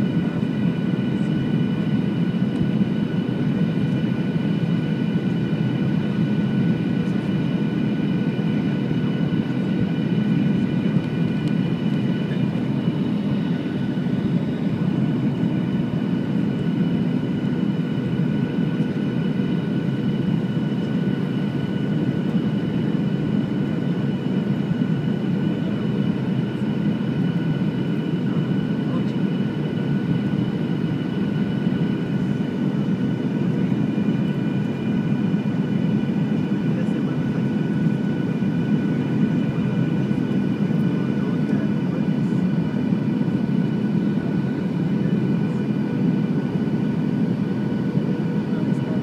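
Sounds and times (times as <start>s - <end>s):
high engine whine: 0.0s - 49.0s
jet cabin engine rumble: 0.0s - 49.0s.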